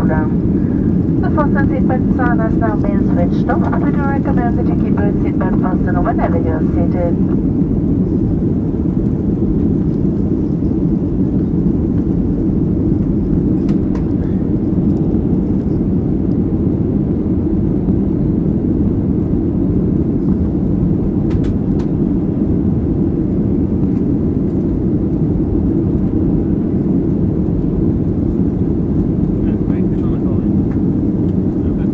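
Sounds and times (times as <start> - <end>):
airliner cabin drone: 0.0 - 31.9.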